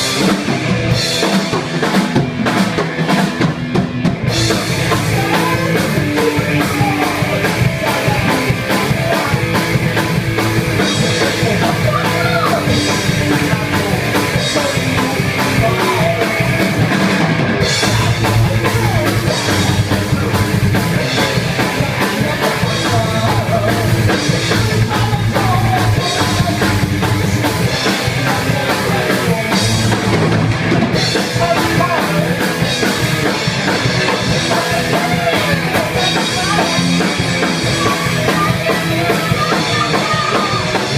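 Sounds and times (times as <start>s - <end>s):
loud punk rock music: 0.0s - 40.9s.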